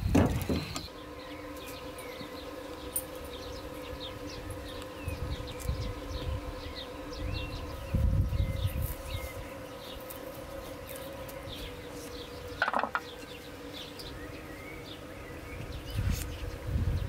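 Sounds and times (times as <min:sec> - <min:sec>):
insects buzzing: 0:00.0 - 0:17.0
small birds chirping: 0:00.0 - 0:17.0.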